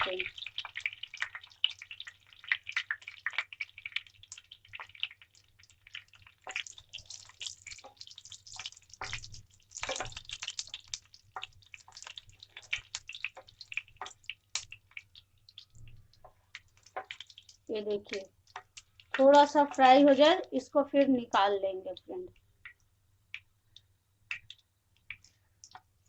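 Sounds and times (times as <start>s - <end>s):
chillies crackling in hot oil: 0.0s - 26.0s.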